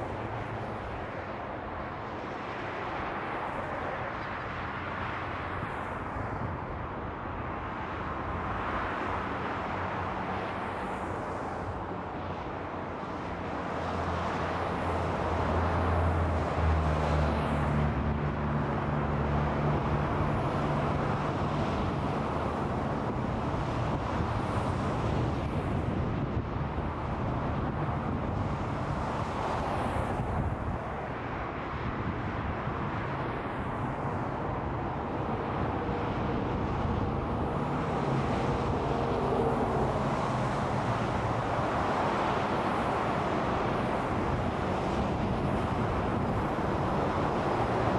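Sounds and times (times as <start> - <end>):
highway traffic rushing: 0.0 - 47.9.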